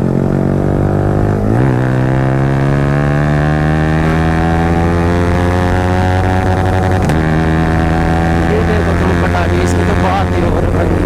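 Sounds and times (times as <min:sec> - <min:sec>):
motorcycle engine at speed: 0:00.0 - 0:11.0.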